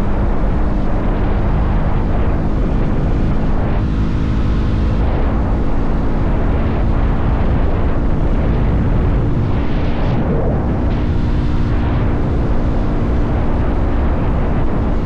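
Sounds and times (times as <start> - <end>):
motorcycle engine cruising: 0.0 - 15.0
wind noise on microphone: 0.0 - 15.0.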